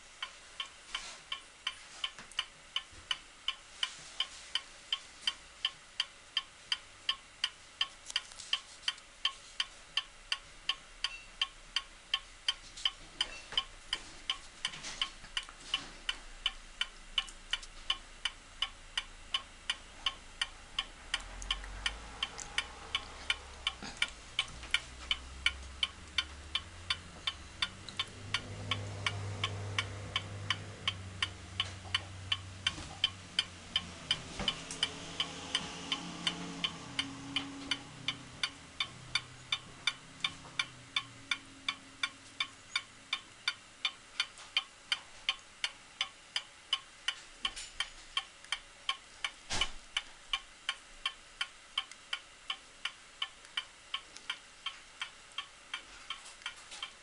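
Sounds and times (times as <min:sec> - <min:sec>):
wall clock ticking: 0:00.0 - 0:57.0.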